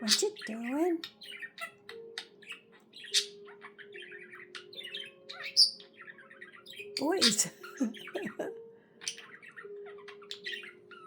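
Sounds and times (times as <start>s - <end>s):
budgerigar chirping and warbling: 0.0s - 11.0s
budgerigar squawk: 0.0s - 11.0s.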